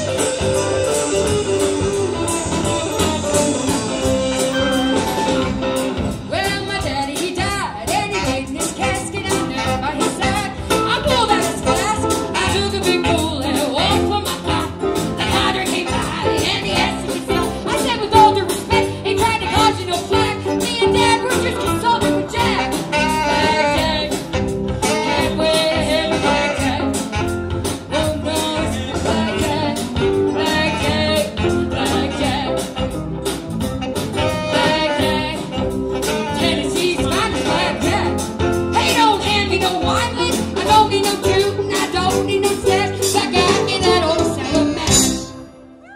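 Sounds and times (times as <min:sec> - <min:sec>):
live band playing: 0:00.0 - 0:45.9
saxophone: 0:00.0 - 0:45.9.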